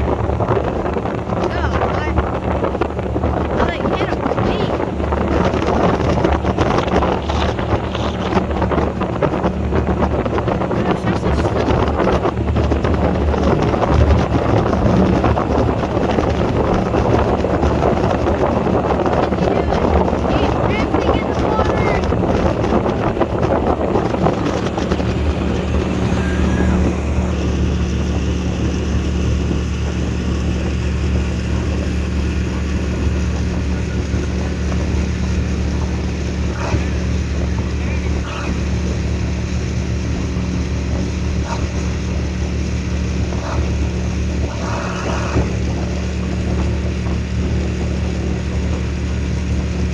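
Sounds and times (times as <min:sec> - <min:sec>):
boat motor running: 0:00.0 - 0:49.9
wind buffeting microphone: 0:00.0 - 0:49.9.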